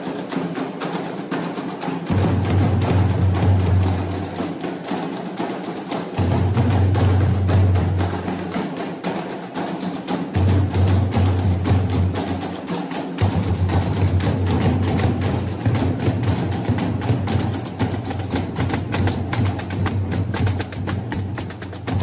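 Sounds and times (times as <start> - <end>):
marching drum corps: 0.0 - 22.0.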